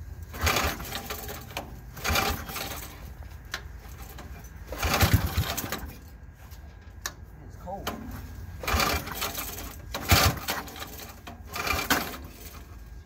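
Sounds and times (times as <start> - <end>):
small engine idling: 0.0 - 6.1, 8.2 - 13.0.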